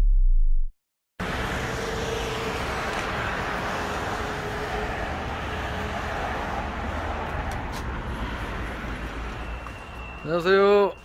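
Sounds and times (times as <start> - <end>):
road traffic rumble: 1.2 - 11.0.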